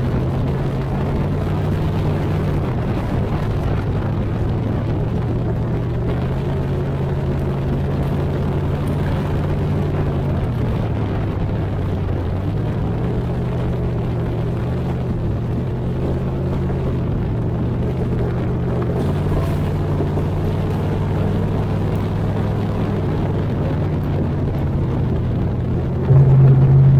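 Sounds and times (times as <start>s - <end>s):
engine running at low revs: 0.0s - 26.9s.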